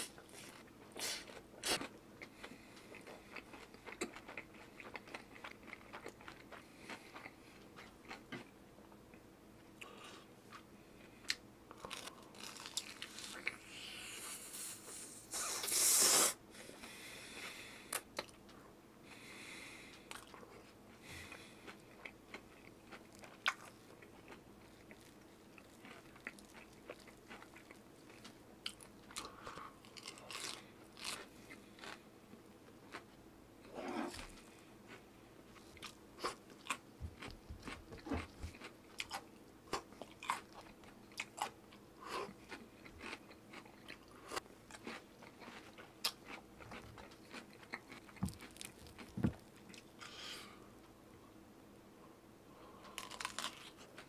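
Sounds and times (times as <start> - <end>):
person chewing crunchy food: 0.0 - 8.5, 9.8 - 14.5, 19.1 - 50.6, 52.8 - 54.0.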